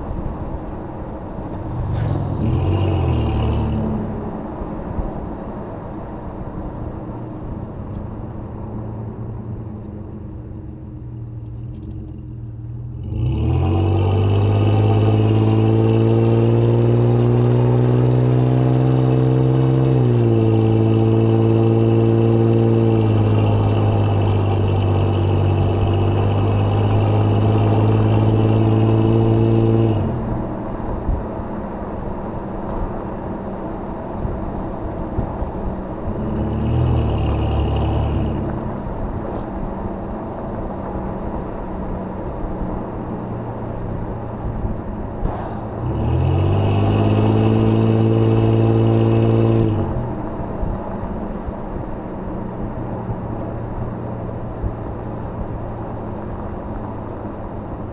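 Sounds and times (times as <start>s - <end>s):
car exhaust accelerating: 1.2s - 5.5s, 6.9s - 57.9s.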